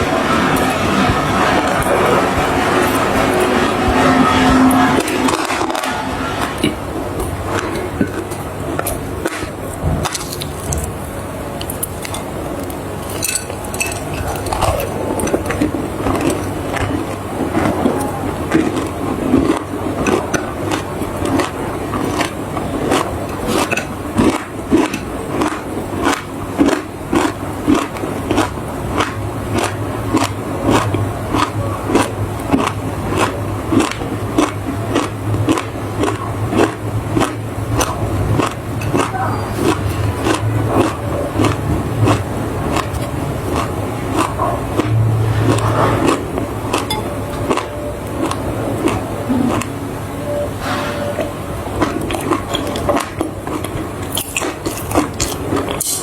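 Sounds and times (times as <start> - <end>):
clay being chewed crunching: 6.5 - 11.0, 11.6 - 49.8, 51.2 - 56.0.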